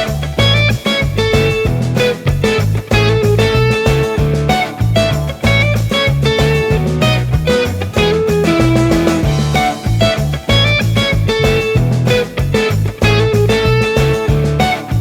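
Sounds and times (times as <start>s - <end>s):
upbeat guitar rock music: 0.0s - 15.0s.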